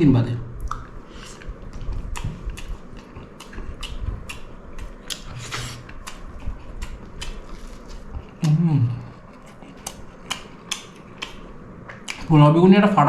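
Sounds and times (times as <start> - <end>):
person chewing with mouth clicks: 0.6 - 12.3.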